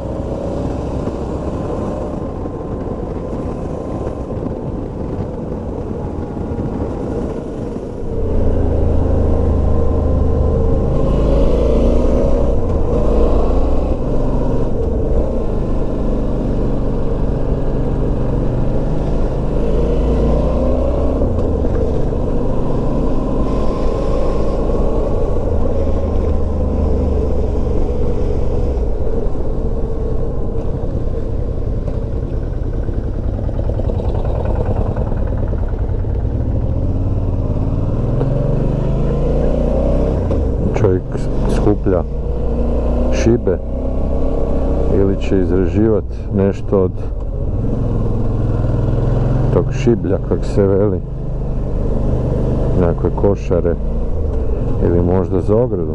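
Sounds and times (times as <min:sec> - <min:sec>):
motorcycle engine running: 0:00.0 - 0:55.9
road noise: 0:00.0 - 0:55.9
wind: 0:00.0 - 0:55.9.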